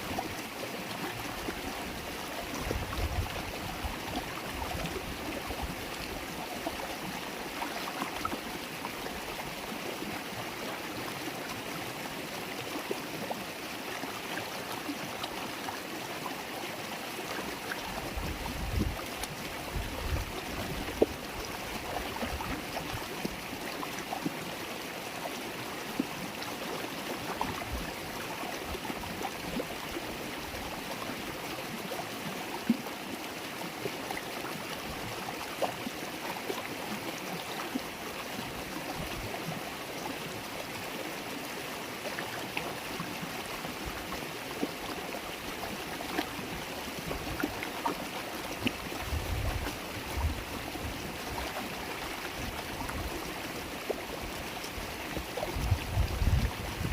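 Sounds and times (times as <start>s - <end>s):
river water babbling over stones: 0.0s - 56.9s.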